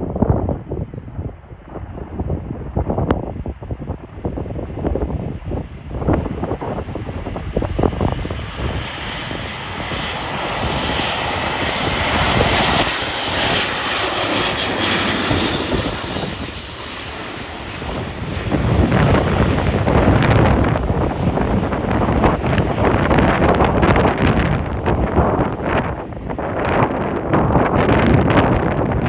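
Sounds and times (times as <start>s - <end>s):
turboprop aircraft low pass: 0.0s - 29.0s
wind buffeting microphone: 0.0s - 29.0s.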